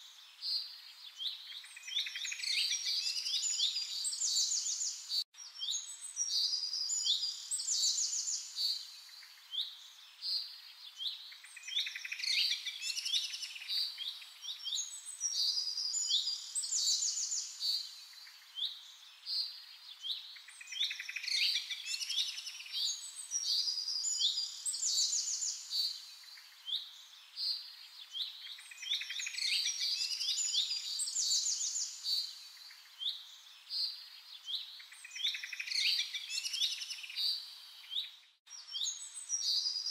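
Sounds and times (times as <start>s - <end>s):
songbirds chirping and singing: 0.2s - 39.9s.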